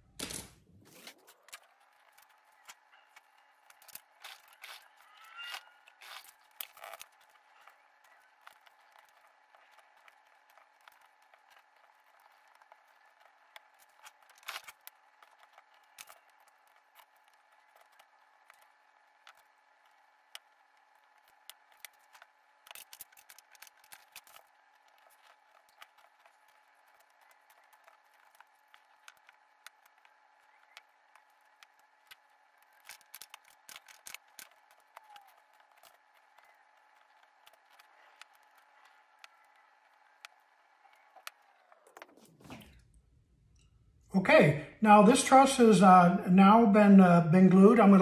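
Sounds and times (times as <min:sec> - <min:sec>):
clicks and scrapes of wooden sticks: 0:00.9 - 0:42.7.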